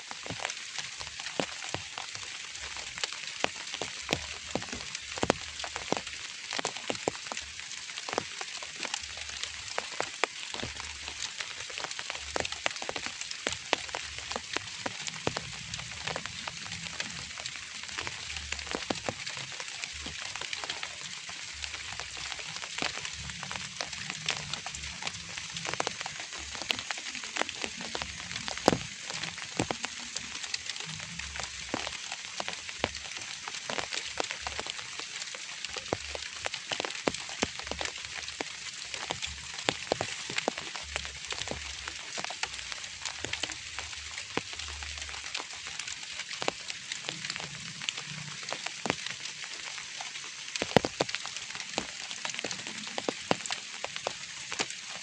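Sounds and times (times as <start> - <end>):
light rain falling: 0.0 - 55.0
rain drop ticks: 0.0 - 55.0.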